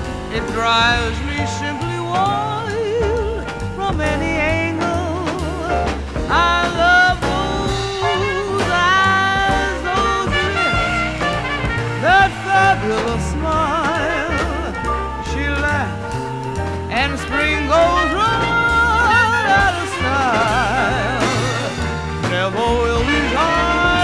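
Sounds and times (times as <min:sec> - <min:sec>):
swing music: 0:00.0 - 0:24.0.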